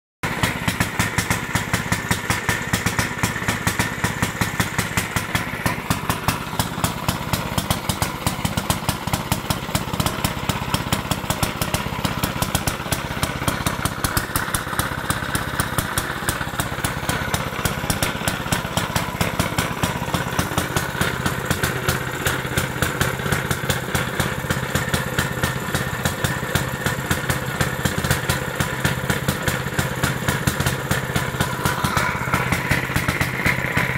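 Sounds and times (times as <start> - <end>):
stationary engine idling: 0.2 - 33.9.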